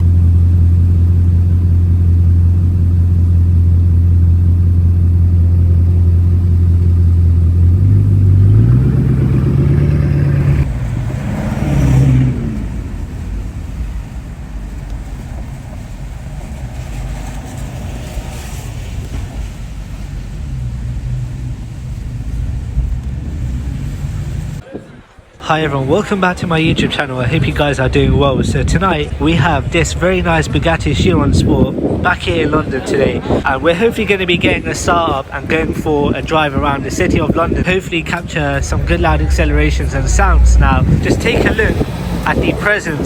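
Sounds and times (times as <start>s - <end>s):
car engine droning: 0.0s - 43.0s.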